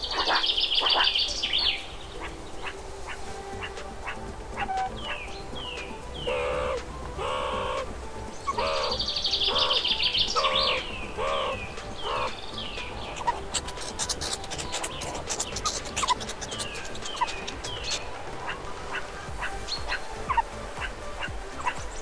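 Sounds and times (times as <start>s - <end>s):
bird clicking chatter: 0.0s - 7.9s, 8.5s - 21.0s
bird buzzing trill: 0.0s - 22.0s.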